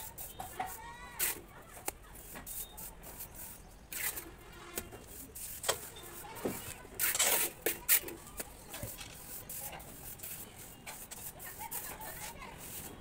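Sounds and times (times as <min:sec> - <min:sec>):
trowel scraping plaster on wall: 0:00.0 - 0:13.0.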